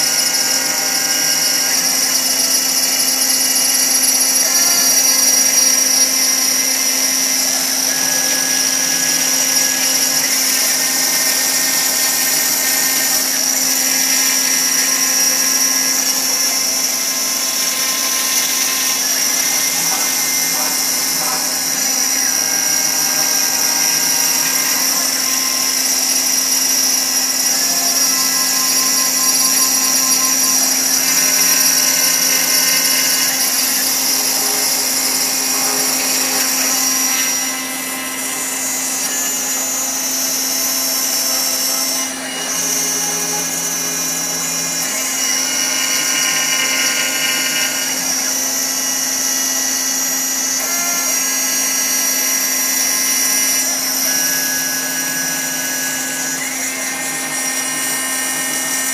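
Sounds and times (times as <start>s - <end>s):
router spindle milling metal: 0.0s - 58.9s.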